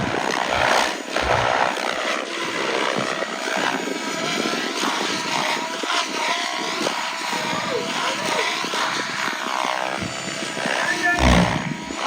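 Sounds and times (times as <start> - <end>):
model helicopter motor and rotors: 0.0 - 12.0.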